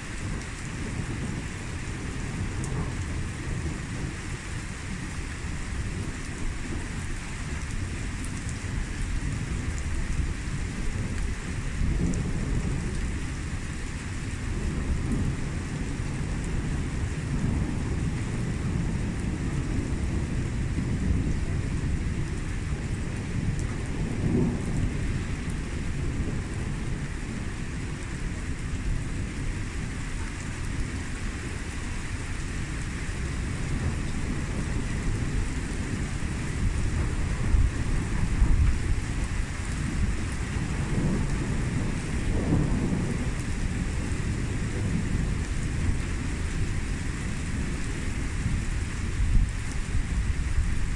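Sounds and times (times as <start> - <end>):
steady rain falling: 0.0 - 50.9
low thunder rumbling: 0.2 - 50.9.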